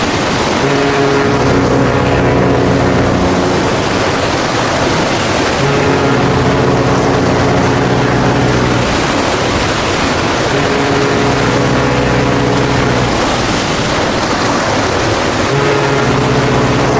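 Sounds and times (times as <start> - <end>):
heavy seas rushing: 0.0 - 16.9
wind: 0.0 - 16.9
low held tone: 0.6 - 14.6, 15.5 - 16.9.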